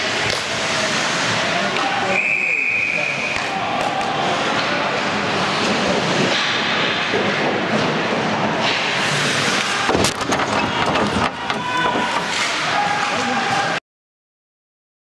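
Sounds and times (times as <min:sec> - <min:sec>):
ice hockey play din: 0:00.0 - 0:02.2, 0:02.8 - 0:13.8.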